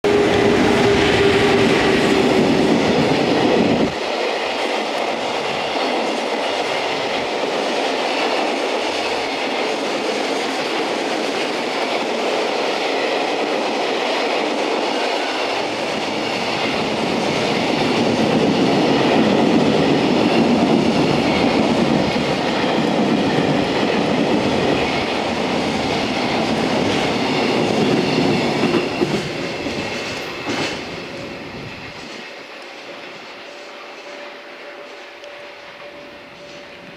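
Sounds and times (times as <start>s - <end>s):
electric locomotive whine: 0.0s - 36.9s
train wheels clattering over rails: 0.0s - 36.9s.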